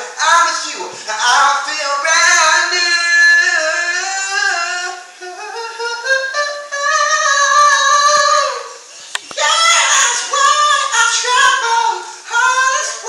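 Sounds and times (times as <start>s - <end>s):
unaccompanied singing voice: 0.0s - 13.0s.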